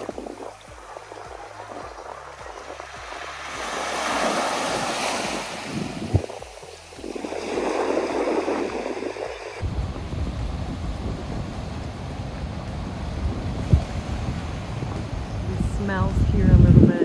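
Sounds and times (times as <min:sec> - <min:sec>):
ocean waves washing up beach: 0:00.0 - 0:17.0
wind rumble on microphone: 0:00.0 - 0:17.0.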